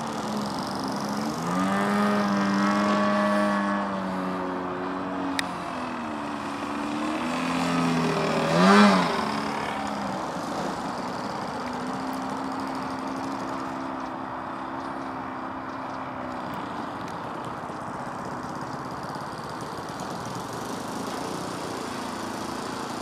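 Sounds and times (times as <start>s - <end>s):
model plane engine: 0.0s - 23.0s.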